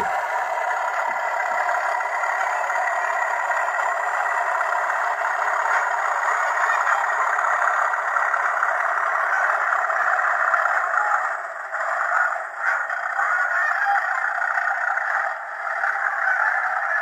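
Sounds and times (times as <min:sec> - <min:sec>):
model locomotive running on track: 0:00.0 - 0:17.0.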